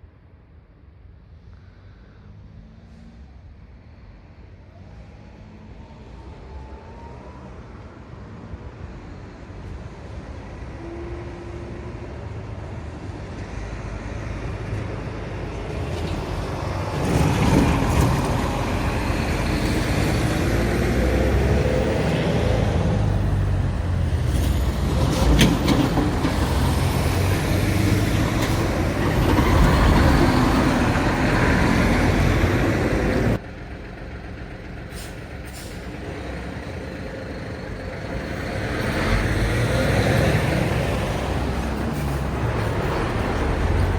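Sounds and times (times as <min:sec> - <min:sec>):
trucks and cars passing: 0:00.1 - 0:43.9.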